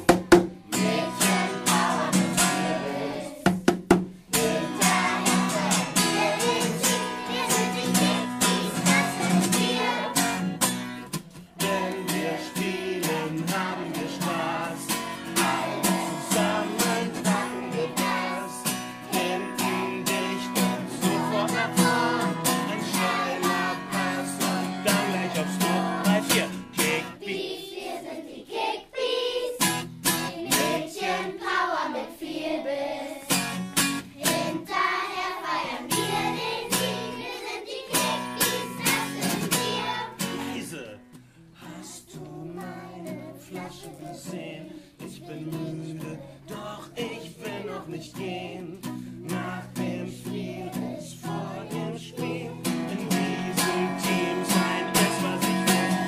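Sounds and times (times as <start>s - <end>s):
children singing: 0.0s - 3.6s, 4.3s - 10.7s, 11.6s - 33.4s, 34.2s - 40.6s, 41.6s - 56.0s
strummed acoustic guitar: 0.0s - 27.2s, 29.5s - 31.2s, 33.2s - 56.0s.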